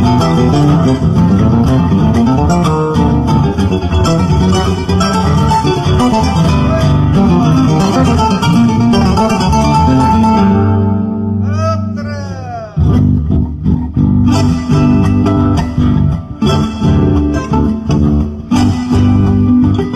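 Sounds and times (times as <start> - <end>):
electric bass plucking: 0.0 - 19.9
plucked guitars folk tune: 0.0 - 19.9.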